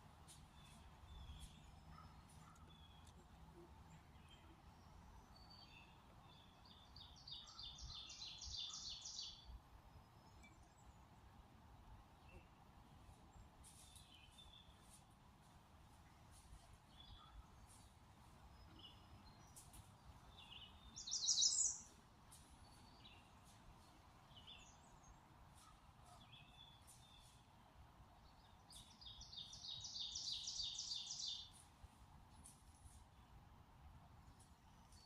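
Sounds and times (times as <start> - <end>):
songbird singing: 0.0 - 15.1, 15.9 - 33.6, 34.2 - 35.0
faint background hiss: 0.0 - 35.0.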